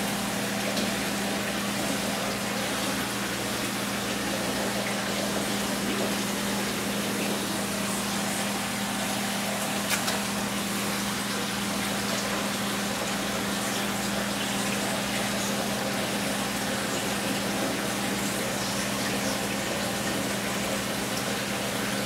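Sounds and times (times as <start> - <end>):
water pump humming: 0.0 - 22.0
water rushing: 0.0 - 22.0.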